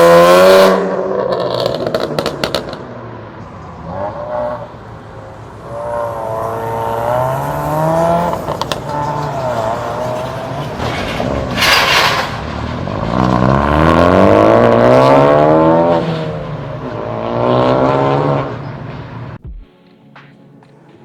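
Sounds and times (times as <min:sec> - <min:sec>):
car engine accelerating: 0:00.0 - 0:11.6, 0:12.5 - 0:21.0.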